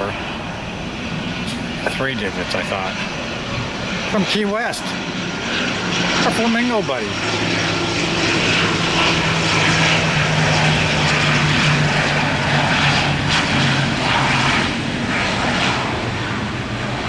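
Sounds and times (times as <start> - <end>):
airliner engines droning: 0.0 - 17.0.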